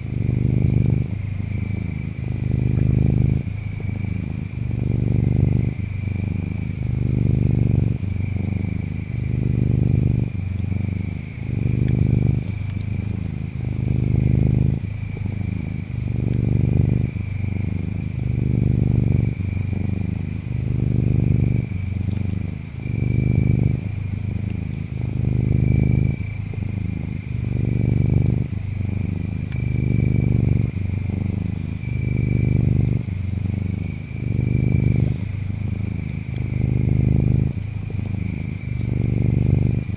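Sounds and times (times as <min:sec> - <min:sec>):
cat purring: 0:00.0 - 0:39.9
insects chirping: 0:00.0 - 0:39.9.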